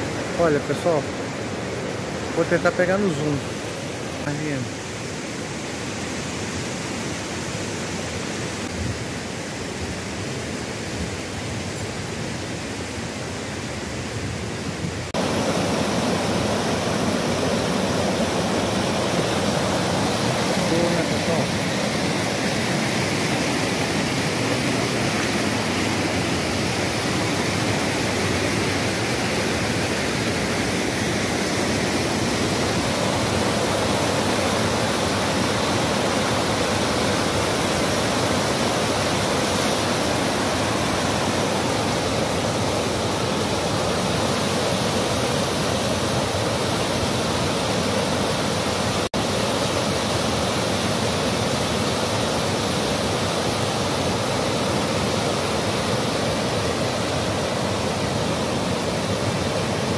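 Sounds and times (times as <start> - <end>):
river rapids rushing over rocks: 0.0 - 9.6, 15.0 - 59.9.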